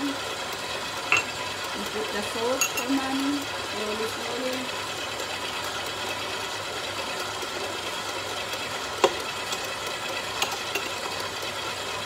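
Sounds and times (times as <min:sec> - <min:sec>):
stand mixer motor whirring: 0:00.0 - 0:12.0.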